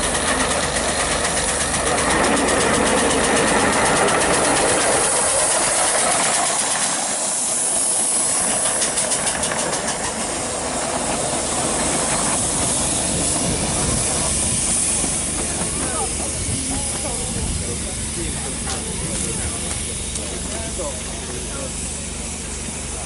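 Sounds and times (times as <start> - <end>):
steam hissing: 0.0 - 23.0
steam locomotive chuffing: 0.0 - 23.0.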